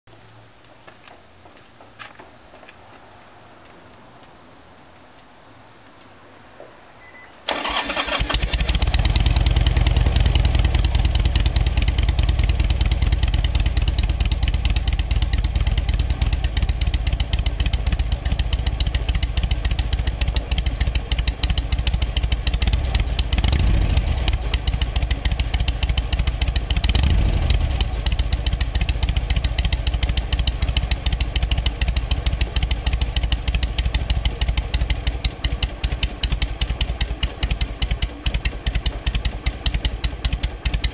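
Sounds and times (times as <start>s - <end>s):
engine throttle blips: 7.1s - 40.9s
motorcycle engine loping idle: 7.6s - 40.9s.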